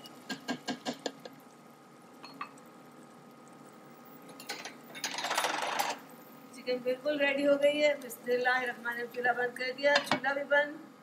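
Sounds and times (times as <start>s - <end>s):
gravy bubbling and sizzling: 0.0s - 11.0s.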